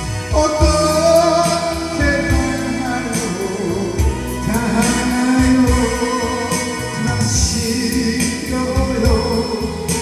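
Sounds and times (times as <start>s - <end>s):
electronic keyboard accompaniment: 0.0s - 10.0s
man singing a slow ballad: 0.0s - 10.0s.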